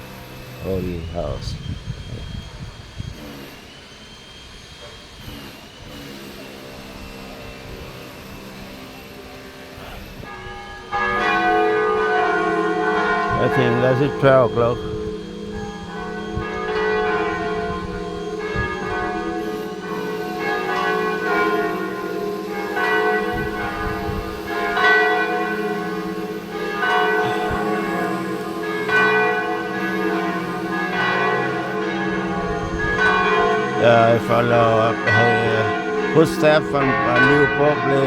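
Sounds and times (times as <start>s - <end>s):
continuous bell ringing hum: 0.0s - 38.0s
church bell strikes: 6.6s - 38.0s.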